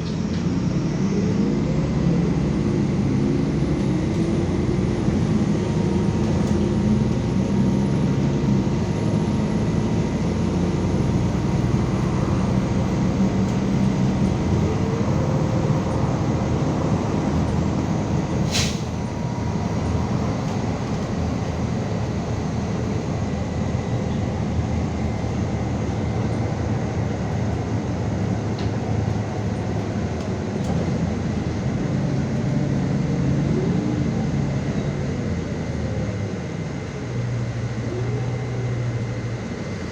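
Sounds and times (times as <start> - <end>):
bus engine humming with whine: 0.0 - 39.9.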